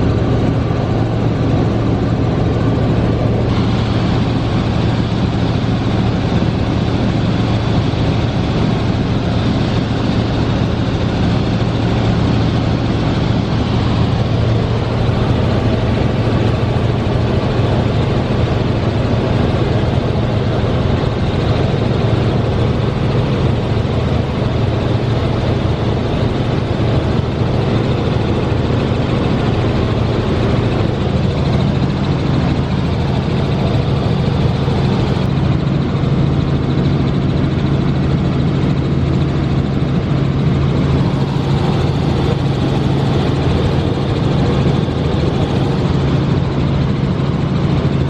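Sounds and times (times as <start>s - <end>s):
helicopter engine and rotors droning: 0.0s - 48.0s.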